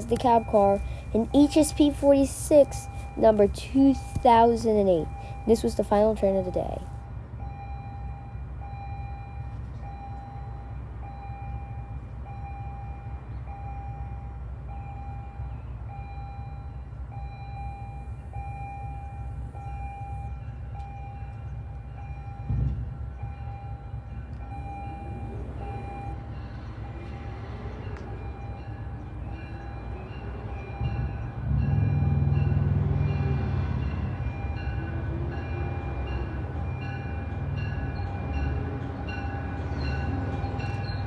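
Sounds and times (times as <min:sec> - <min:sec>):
train rumbling: 0:00.0 - 0:41.0.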